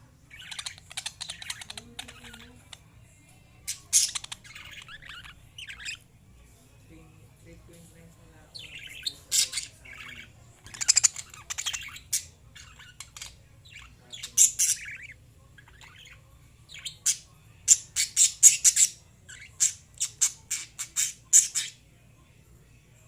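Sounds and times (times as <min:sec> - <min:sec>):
lovebirds chirping and squawking: 0:00.3 - 0:06.1, 0:08.3 - 0:21.9.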